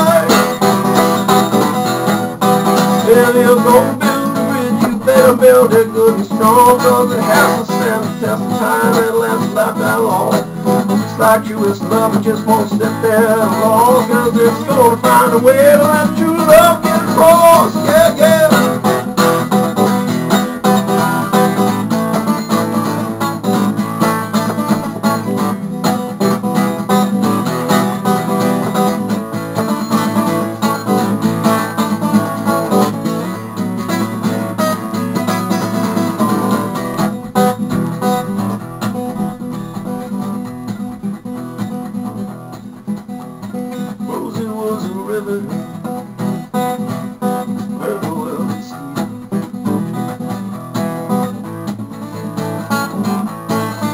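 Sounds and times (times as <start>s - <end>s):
acoustic guitar picked and strummed: 0.0s - 53.9s.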